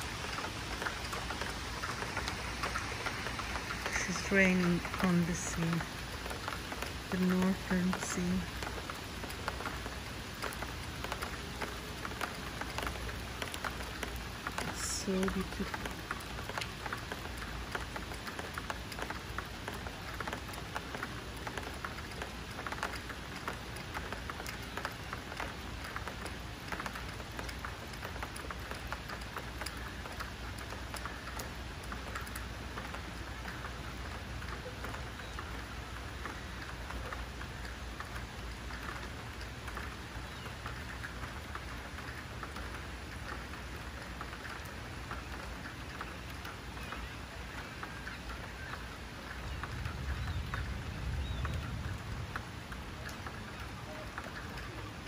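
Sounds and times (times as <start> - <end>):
raindrops pattering: 0.0 - 55.0
steady rain hiss: 0.0 - 55.0.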